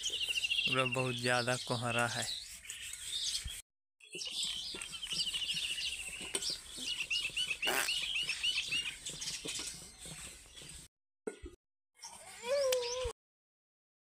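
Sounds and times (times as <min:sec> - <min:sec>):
small birds chirping: 0:00.0 - 0:10.9, 0:12.0 - 0:13.1.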